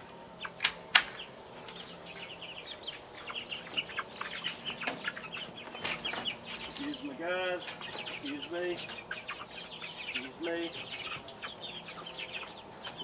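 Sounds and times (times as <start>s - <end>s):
high insect drone: 0.0s - 13.0s
chickens clucking: 0.1s - 13.0s.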